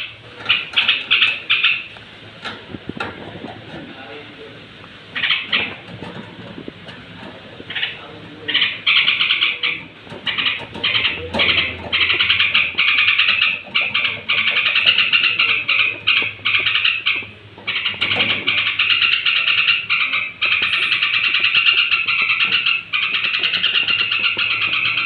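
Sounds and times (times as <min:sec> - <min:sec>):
bird chattering: 0:00.0 - 0:25.0.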